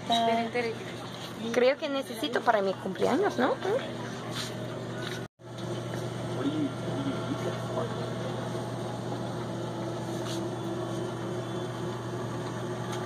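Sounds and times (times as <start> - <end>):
grocery store background drone: 0.0 - 13.0.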